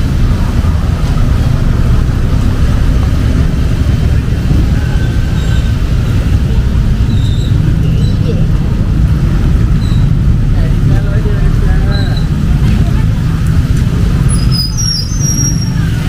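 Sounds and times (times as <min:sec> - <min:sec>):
heavy rain: 0:00.0 - 0:16.0
road traffic on wet street: 0:00.0 - 0:16.0.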